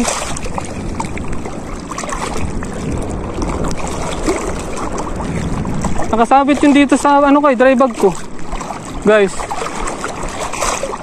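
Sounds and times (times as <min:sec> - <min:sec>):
seawater sloshing around wading legs: 0:00.0 - 0:11.0.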